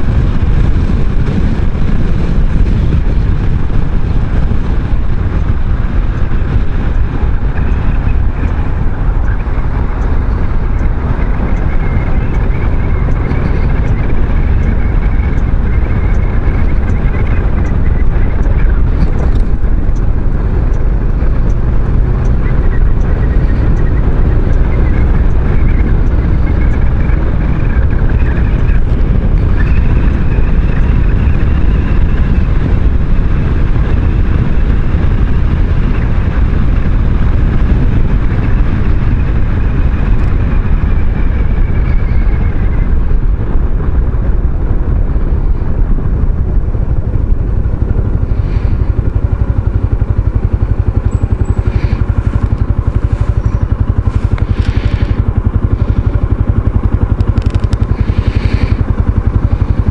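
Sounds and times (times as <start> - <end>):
faint high whine: 0.0 - 59.9
scooter engine running: 0.0 - 59.9
wind rush on microphone: 0.0 - 59.9.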